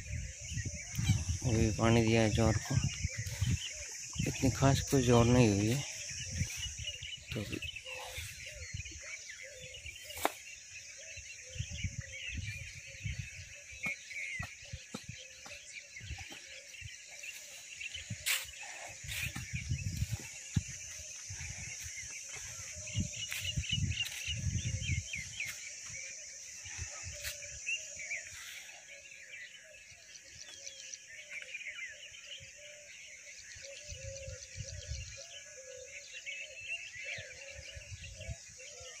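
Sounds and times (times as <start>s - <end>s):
insect drone: 0.0s - 39.0s
small birds chirping: 0.0s - 39.0s.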